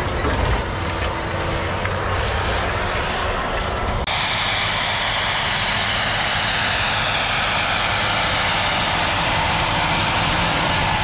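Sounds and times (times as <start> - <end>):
tractor running under load: 0.0 - 11.0.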